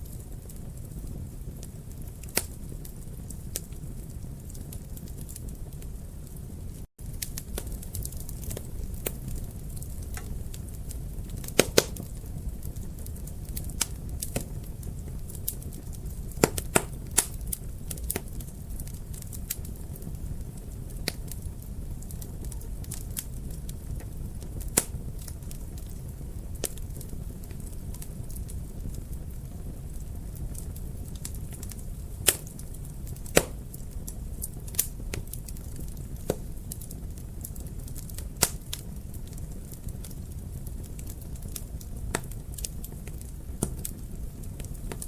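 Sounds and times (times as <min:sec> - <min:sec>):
sharp fire pops: 0:00.0 - 0:45.0
wood fire crackling: 0:00.0 - 0:45.0.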